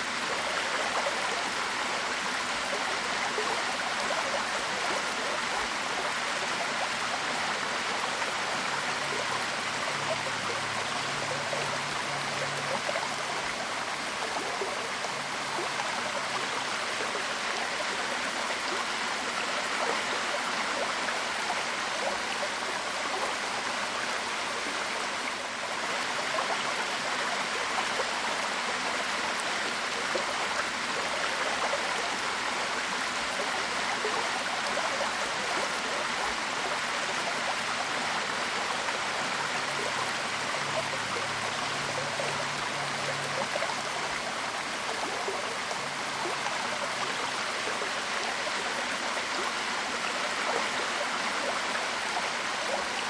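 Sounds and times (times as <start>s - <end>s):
waterfall rushing and splashing: 0.0s - 53.0s.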